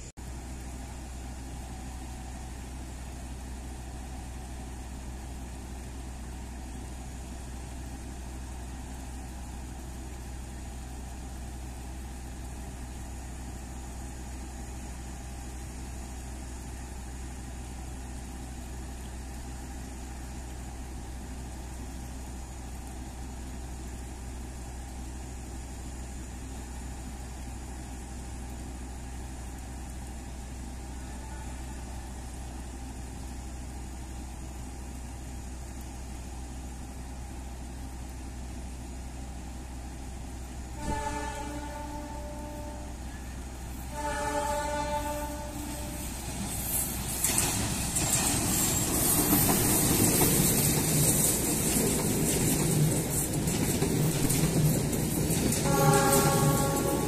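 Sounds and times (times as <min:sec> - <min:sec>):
diesel train engine idling: 0:00.0 - 0:57.0.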